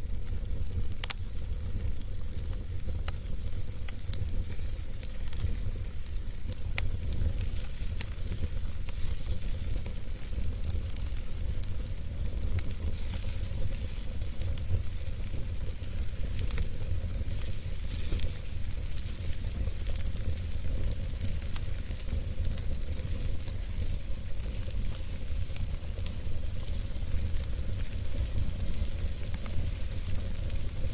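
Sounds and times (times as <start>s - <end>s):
fire crackles and pops: 0.0s - 30.9s
wood fire rumbling and hissing: 0.0s - 30.9s.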